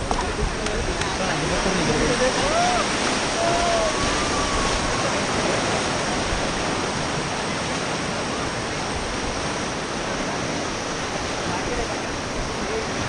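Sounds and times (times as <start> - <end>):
rushing river whitewater: 0.0 - 13.0.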